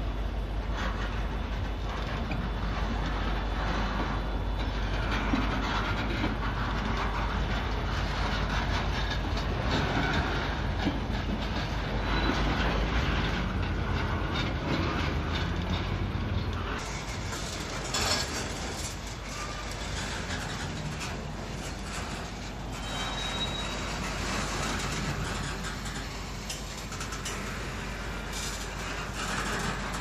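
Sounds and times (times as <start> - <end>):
freight train rolling past: 2.5 - 30.0.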